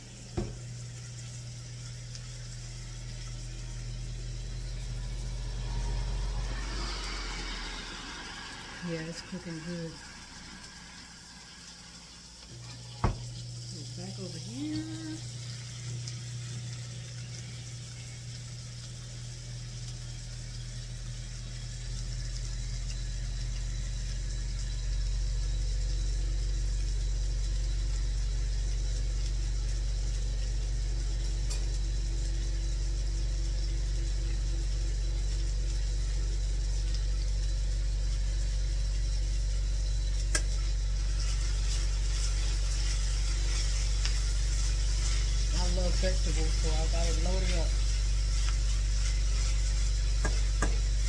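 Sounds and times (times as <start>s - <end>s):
appliance fan hum: 0.0s - 51.0s.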